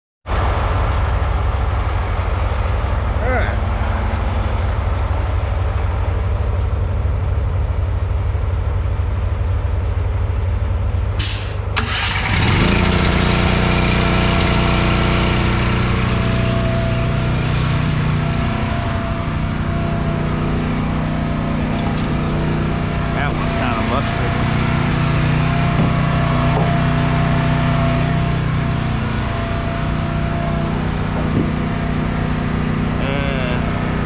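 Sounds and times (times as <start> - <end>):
diesel engine idling: 0.3 - 34.0.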